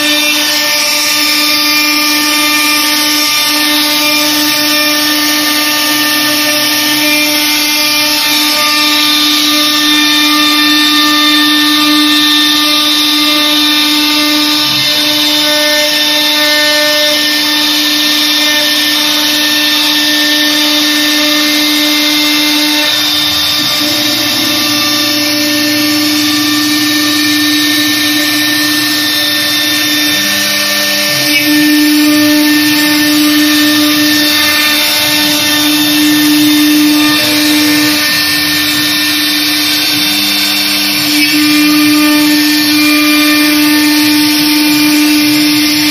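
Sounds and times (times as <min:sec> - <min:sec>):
router spindle whine: 0:00.0 - 0:45.9.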